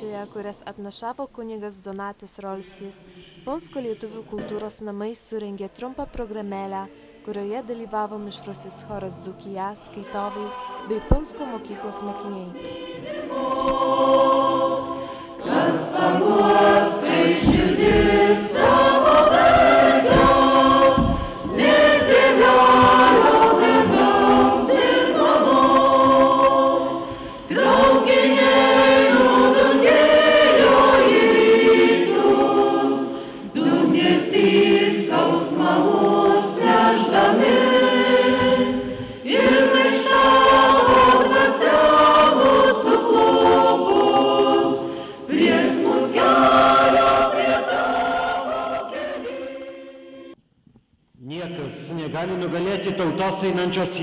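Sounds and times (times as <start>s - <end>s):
mixed choir singing: 6.7s - 50.4s.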